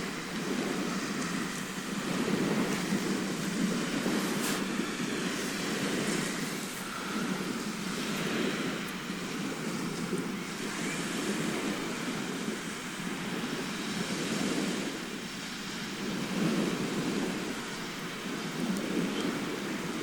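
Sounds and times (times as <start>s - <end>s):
sea waves washing on shore: 0.0s - 20.0s.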